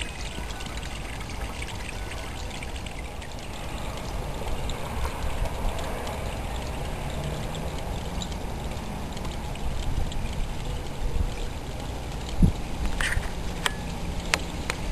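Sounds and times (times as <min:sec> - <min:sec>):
rainwater pouring down rain chain: 0:00.0 - 0:14.9.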